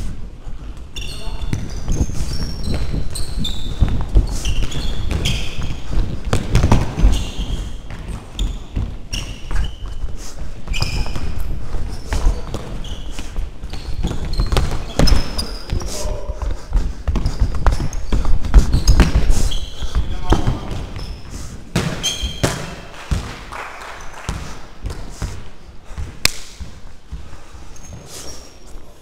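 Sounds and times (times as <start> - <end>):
sneakers squeaking on floor: 0.6 - 23.3, 24.0 - 29.0.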